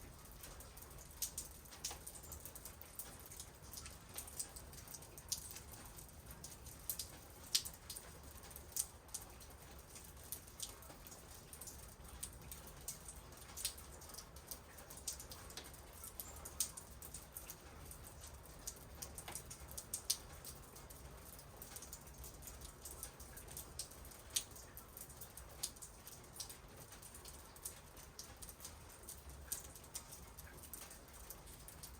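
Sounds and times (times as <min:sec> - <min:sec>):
raindrops dripping and pattering: 0:00.0 - 0:31.9.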